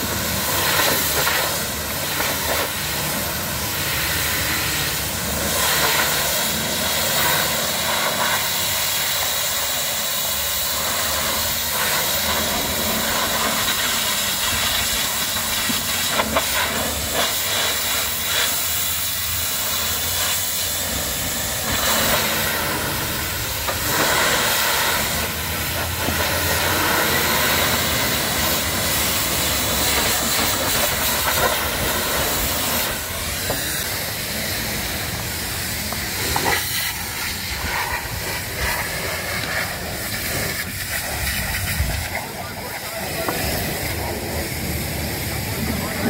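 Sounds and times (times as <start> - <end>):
pressure washer jet hissing: 0.0 - 46.0.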